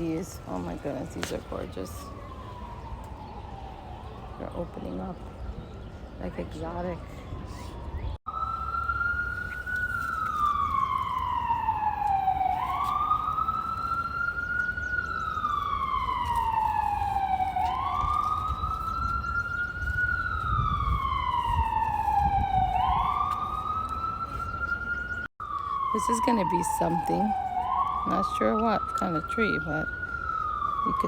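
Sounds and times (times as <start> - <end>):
city traffic rumble: 0.0 - 31.0
emergency vehicle siren wailing: 0.0 - 31.0.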